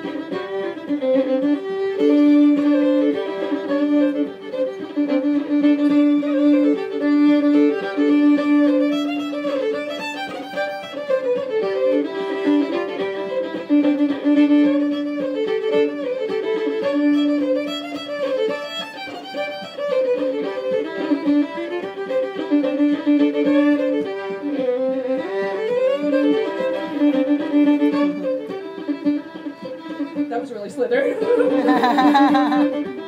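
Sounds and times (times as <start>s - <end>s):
two fiddles playing a folk tune: 0.0s - 33.0s.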